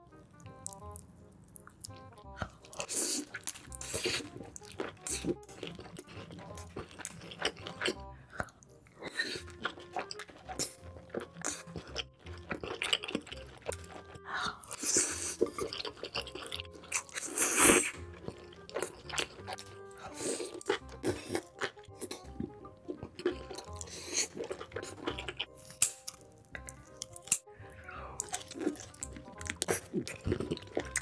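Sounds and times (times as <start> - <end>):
background music: 0.0 - 31.0
wet chewing: 0.3 - 27.5, 28.1 - 31.0.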